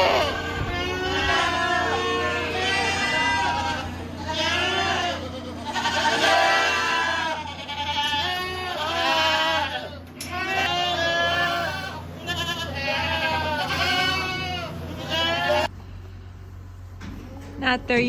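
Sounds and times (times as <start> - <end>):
goats bleating: 0.0 - 15.7
steady low hum: 0.0 - 18.0.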